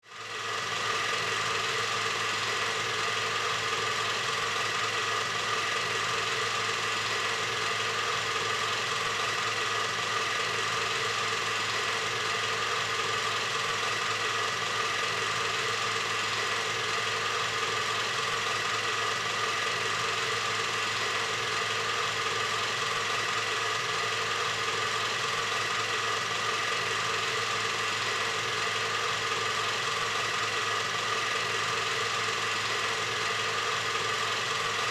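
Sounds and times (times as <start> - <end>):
machine droning steadily: 0.0 - 34.9.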